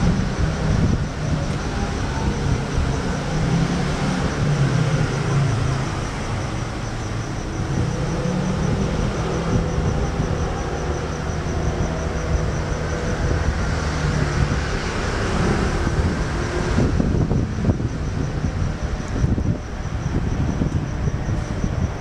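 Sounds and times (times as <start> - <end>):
train rumble approaching: 0.0 - 22.0.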